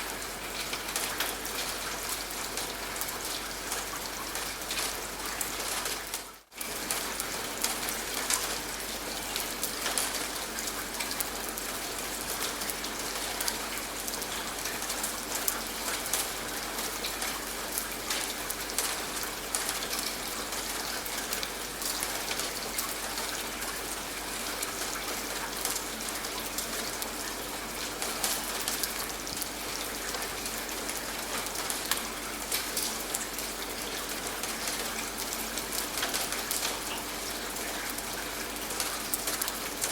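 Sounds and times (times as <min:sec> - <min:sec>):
steady rain with drop ticks: 0:00.0 - 0:39.9.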